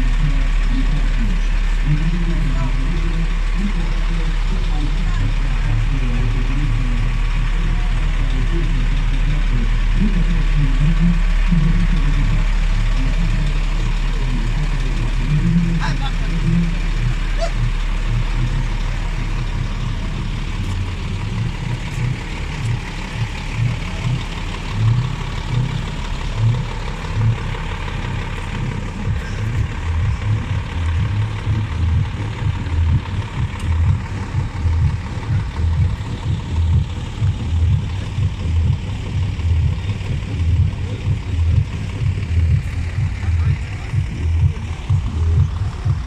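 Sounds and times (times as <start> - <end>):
truck engines idling: 0.0 - 46.0.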